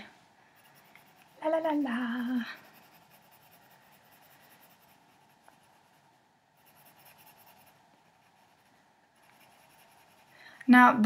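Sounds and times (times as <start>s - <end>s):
pencil scratching on paper: 0.5s - 10.4s.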